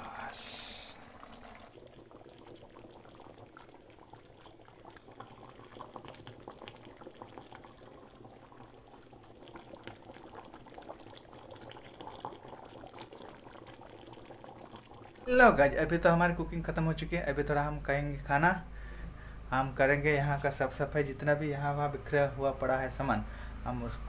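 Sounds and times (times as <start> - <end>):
curry bubbling: 0.0 - 24.0.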